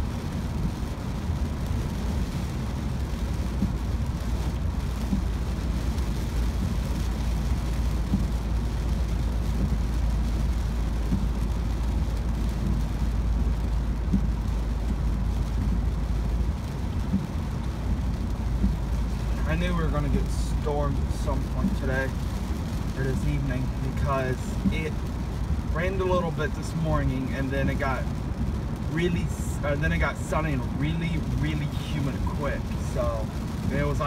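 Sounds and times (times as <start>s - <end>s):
car road rumble: 0.0s - 34.0s
tyres hissing on wet road: 0.0s - 34.0s.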